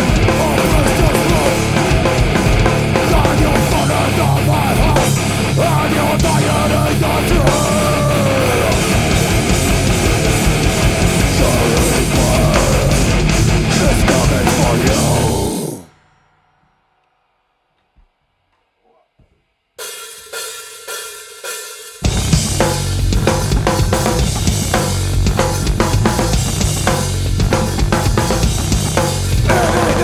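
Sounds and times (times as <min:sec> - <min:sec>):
heavy rock band playing: 0:00.0 - 0:15.9, 0:21.6 - 0:30.0.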